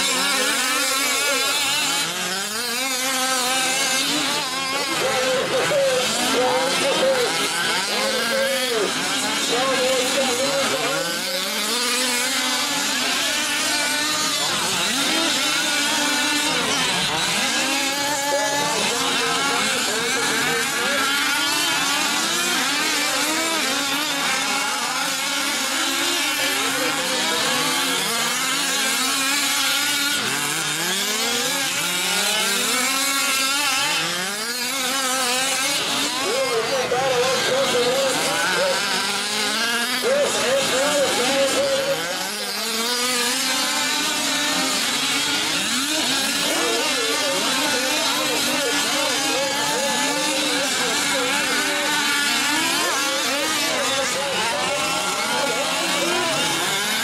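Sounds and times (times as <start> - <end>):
small two-stroke engines revving: 0.0 - 57.0.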